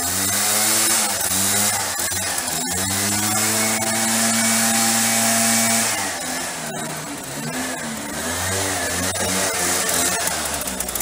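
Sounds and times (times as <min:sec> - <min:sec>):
backpack blower engine running: 0:00.0 - 0:11.0.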